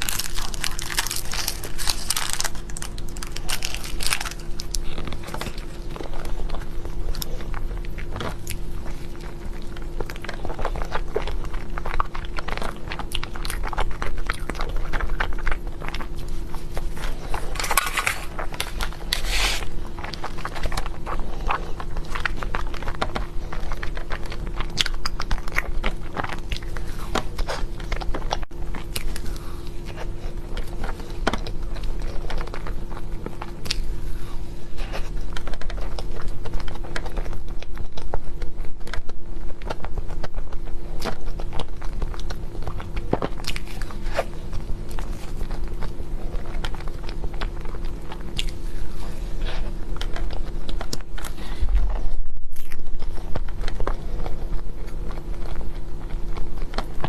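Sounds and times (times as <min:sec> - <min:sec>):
chewing and crunching: 0:00.0 - 0:57.0
steady low hum: 0:00.0 - 0:57.0.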